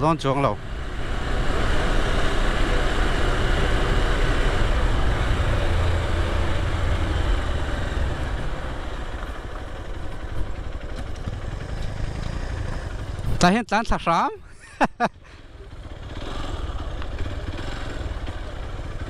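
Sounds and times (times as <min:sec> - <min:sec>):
motorcycle engine running: 0:00.0 - 0:13.6, 0:15.2 - 0:19.0
wind and road noise: 0:00.0 - 0:19.0.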